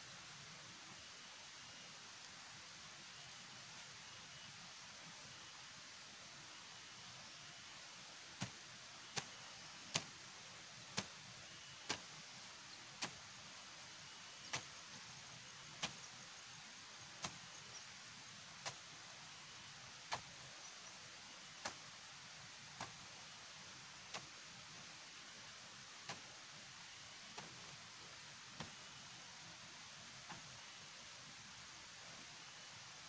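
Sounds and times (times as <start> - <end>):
rain hiss: 0.0 - 33.0.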